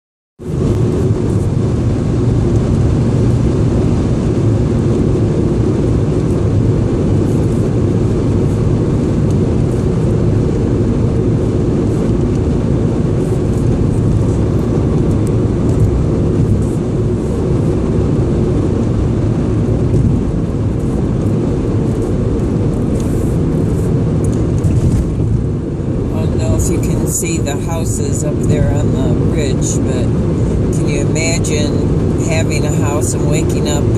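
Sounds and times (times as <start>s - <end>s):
car interior road rumble: 0.4s - 33.9s.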